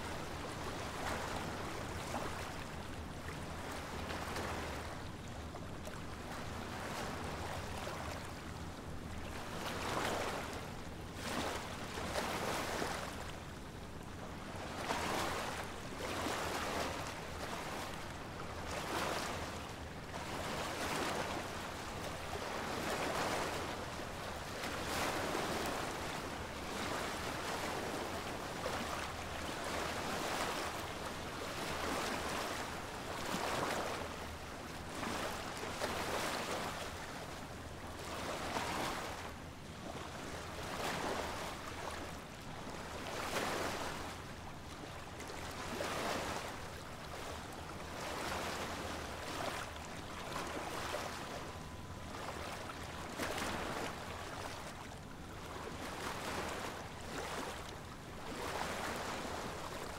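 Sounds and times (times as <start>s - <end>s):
small waves washing onto sand: 0.0s - 59.9s.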